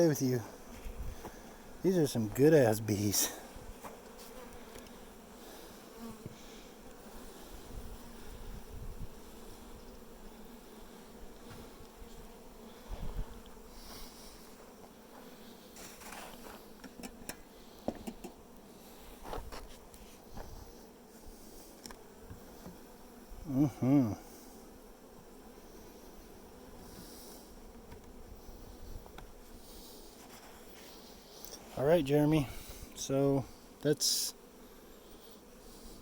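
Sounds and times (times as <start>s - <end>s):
honeybees buzzing: 0.0s - 36.0s.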